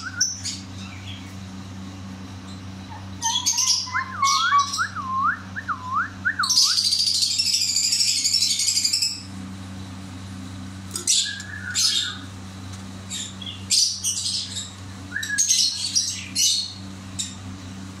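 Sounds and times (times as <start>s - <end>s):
lovebirds chirping: 0.0s - 9.3s, 10.8s - 12.3s, 13.0s - 17.5s
steady low hum: 0.0s - 18.0s.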